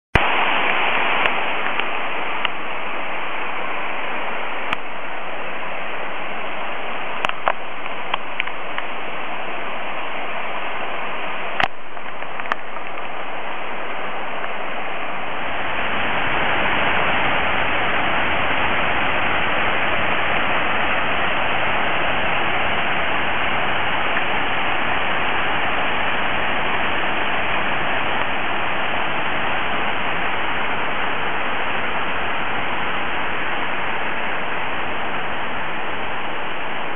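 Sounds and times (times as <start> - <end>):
waterfall splashing: 0.2 - 36.9.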